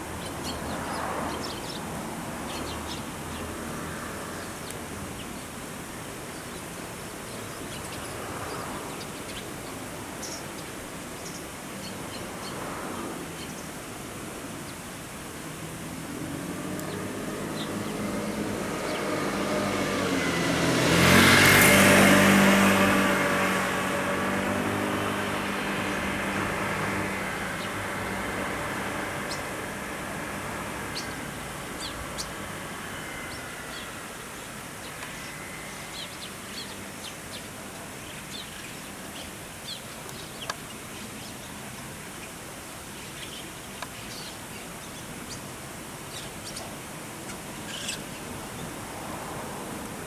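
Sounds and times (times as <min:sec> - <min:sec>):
small birds chirping: 0:00.0 - 0:05.6, 0:06.2 - 0:13.8, 0:16.5 - 0:20.4, 0:23.3 - 0:48.8.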